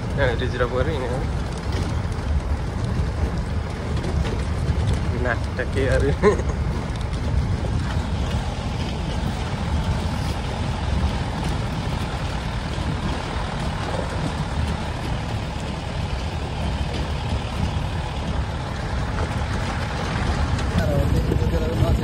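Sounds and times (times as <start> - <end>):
vehicle engine and tyres rumbling: 0.0 - 22.0.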